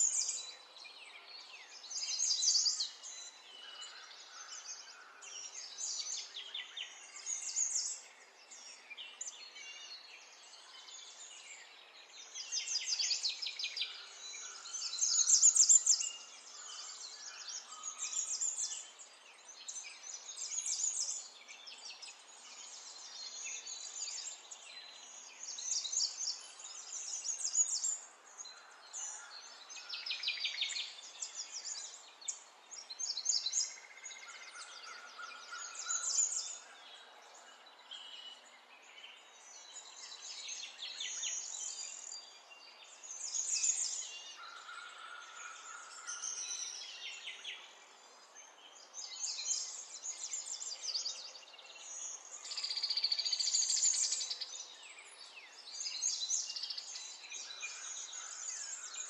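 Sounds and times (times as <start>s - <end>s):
faint outdoor hiss: 0.0s - 59.0s
songbirds singing: 0.0s - 59.0s.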